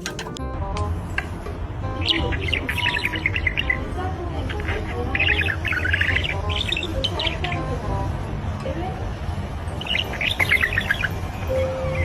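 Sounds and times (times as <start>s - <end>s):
parrot chirping and chattering: 1.0s - 8.5s, 9.3s - 12.0s.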